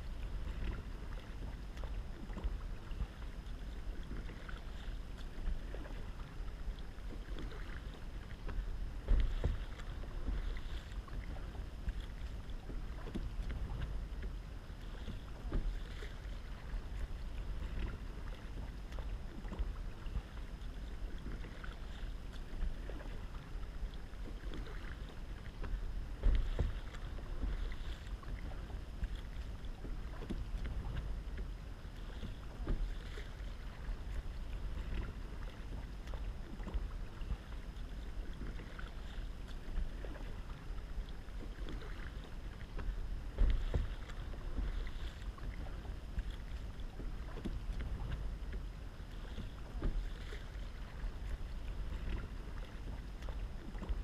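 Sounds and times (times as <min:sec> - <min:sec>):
kayak paddle splashing water: 0:00.0 - 0:54.0
wind rumble on microphone: 0:00.0 - 0:54.0.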